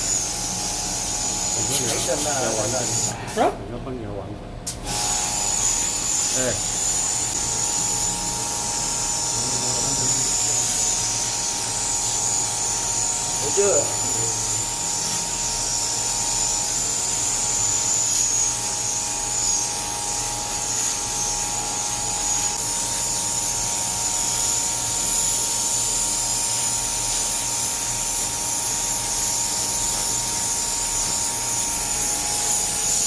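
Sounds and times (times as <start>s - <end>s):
pressure washer whining: 0.0s - 3.2s, 4.8s - 33.0s.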